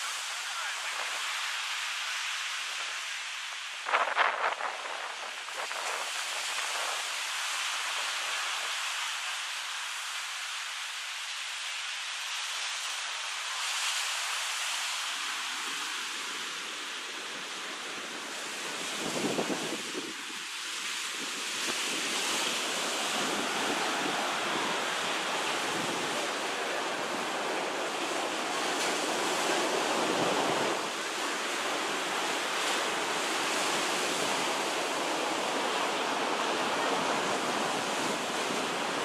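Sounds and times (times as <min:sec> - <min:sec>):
surf washing up a beach: 0:00.0 - 0:39.0.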